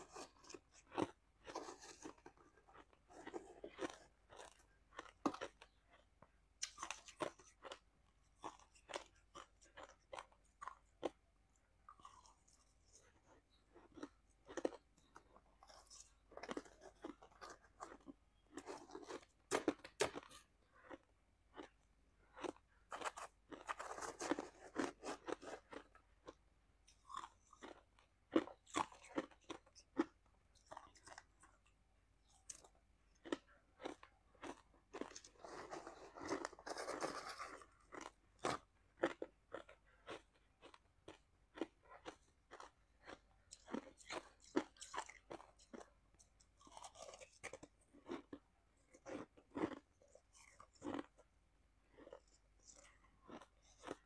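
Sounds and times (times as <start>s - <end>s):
crunching and chewing shaved ice: 0.0s - 54.0s.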